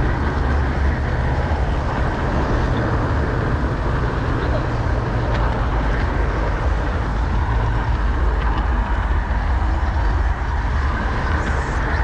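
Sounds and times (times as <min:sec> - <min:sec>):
model train rumbling on track: 0:00.0 - 0:12.0.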